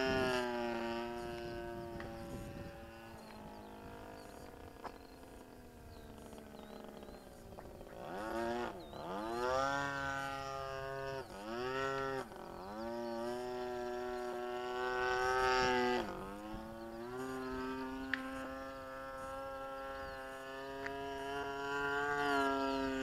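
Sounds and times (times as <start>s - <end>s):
model airplane motor buzzing: 0.0s - 23.0s.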